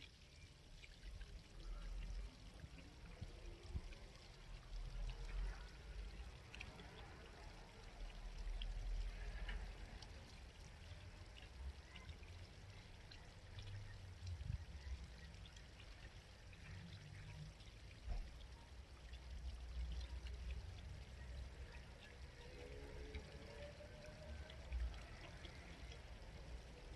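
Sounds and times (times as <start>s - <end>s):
stream babbling and trickling: 0.0s - 26.9s.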